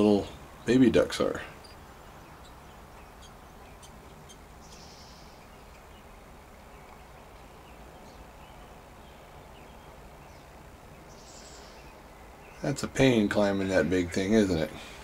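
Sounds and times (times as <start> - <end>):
faint outdoor background noise: 0.0 - 15.0
small birds chirping: 0.0 - 15.0.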